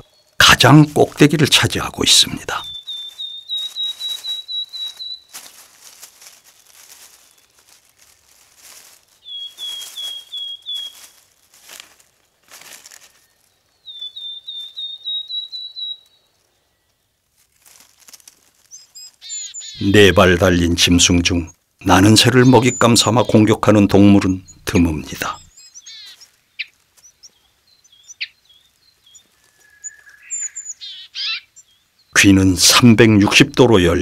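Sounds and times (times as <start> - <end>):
small bird chirping: 0.0 - 11.8, 12.7 - 32.5
dry leaves rustling: 0.2 - 32.0.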